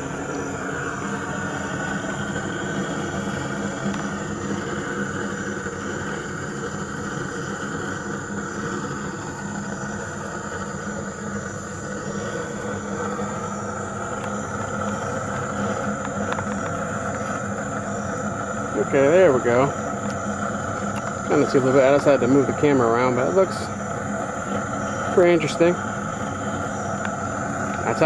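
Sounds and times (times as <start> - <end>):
machine hum with whine: 0.0 - 28.0.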